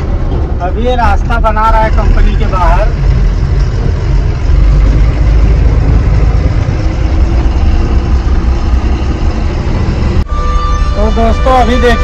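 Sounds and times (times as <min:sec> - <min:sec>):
diesel truck engine rumble: 0:00.0 - 0:12.0
road noise: 0:00.0 - 0:12.0.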